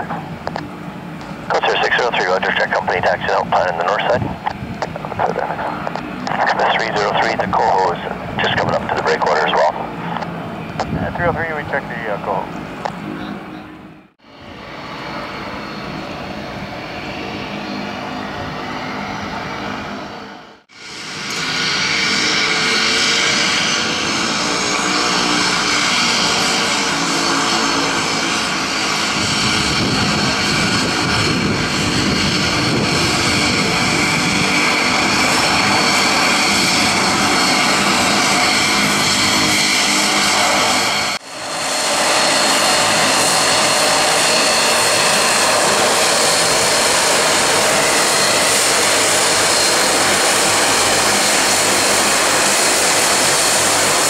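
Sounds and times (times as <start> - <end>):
turboprop engines whining: 0.0 - 54.0.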